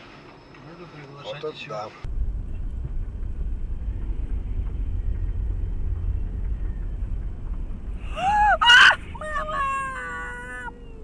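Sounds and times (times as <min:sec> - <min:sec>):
car driving rumble: 0:02.0 - 0:11.0.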